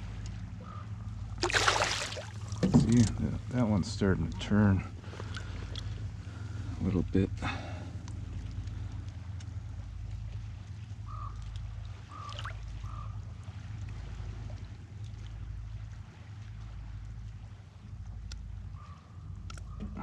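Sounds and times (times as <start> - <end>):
faint water noise: 0.0 - 20.0.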